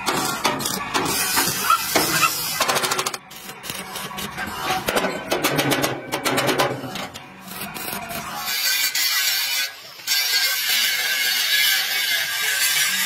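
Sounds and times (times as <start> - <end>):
angle grinder grinding steel: 0.0 - 5.3, 6.8 - 13.0.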